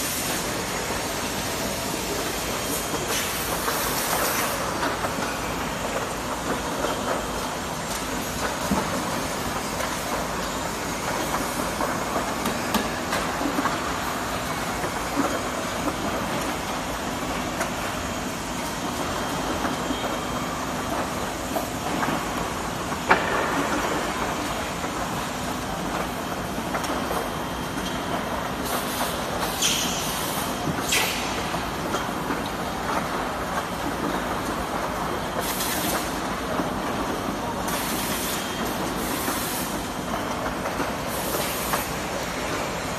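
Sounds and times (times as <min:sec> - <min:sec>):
machinery hum: 0:00.0 - 0:42.9.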